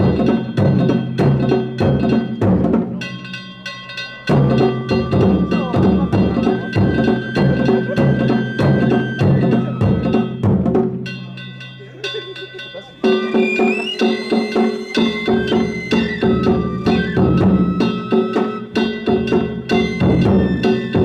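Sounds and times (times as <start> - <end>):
hand gongs ringing: 0.0 - 21.0
taiko drums beating: 0.0 - 21.0.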